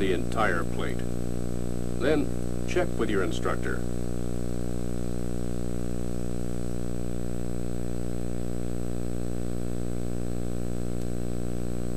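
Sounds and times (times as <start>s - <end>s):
electrical hum: 0.0s - 11.9s.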